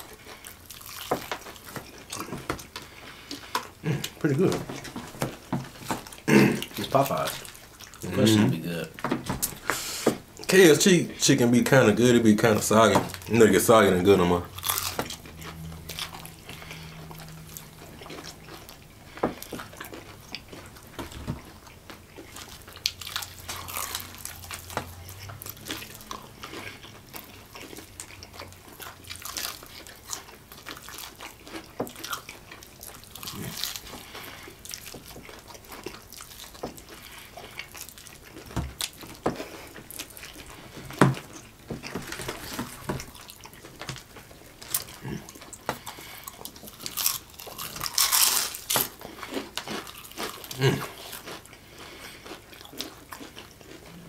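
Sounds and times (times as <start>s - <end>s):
wet chewing and slurping: 0.0s - 8.4s, 11.2s - 54.0s
crunches of fried breading: 9.7s - 53.9s.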